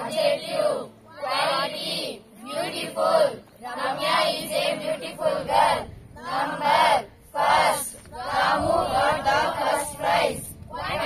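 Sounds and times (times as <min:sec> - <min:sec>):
children reciting in unison: 0:00.0 - 0:11.0.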